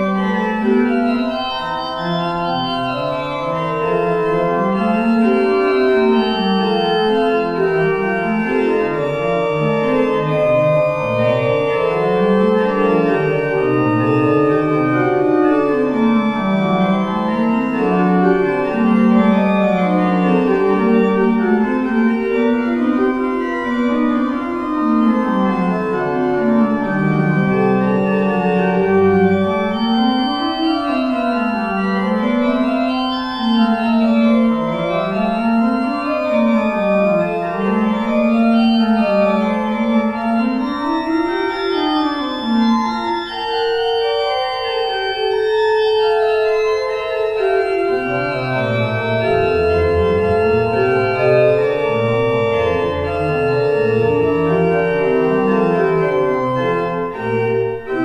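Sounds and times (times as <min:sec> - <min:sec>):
church organ playing: 0:00.0 - 0:58.0.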